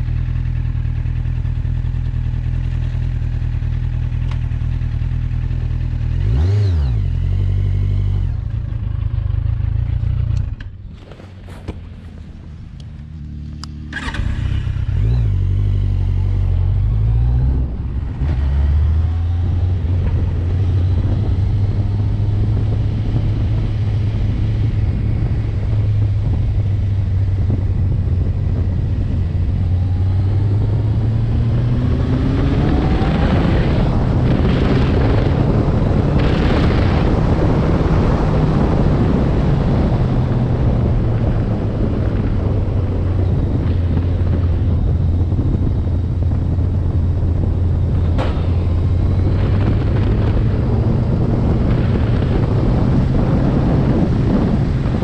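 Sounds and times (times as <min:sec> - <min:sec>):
vehicle engine accelerating: 0:00.0 - 0:55.0.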